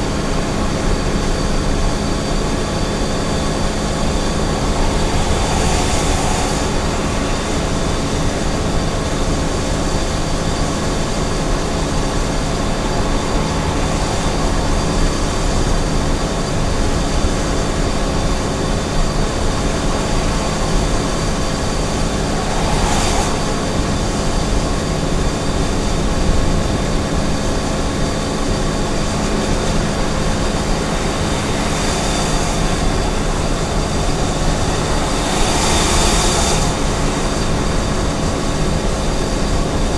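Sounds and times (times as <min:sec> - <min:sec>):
truck engine and tyre drone: 0:00.0 - 0:39.9.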